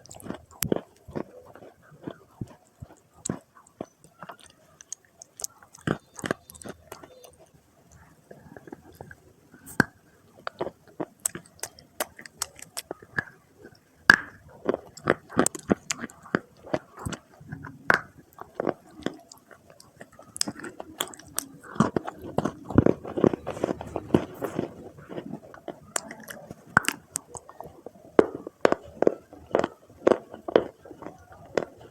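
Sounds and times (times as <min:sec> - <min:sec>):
chewing clay crunches: 0:00.0 - 0:31.9.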